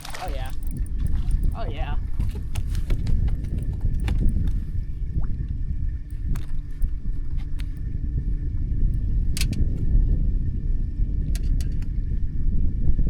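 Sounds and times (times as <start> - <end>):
knocks and clicks on a boat: 0.0 - 10.0, 11.3 - 12.0
steady low rumble: 0.0 - 13.0.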